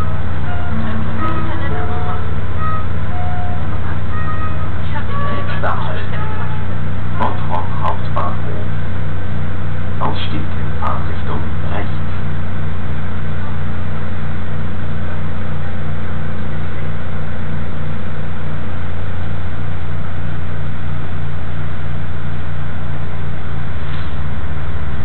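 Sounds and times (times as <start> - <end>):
train carriage hum and hiss: 0.0 - 25.0.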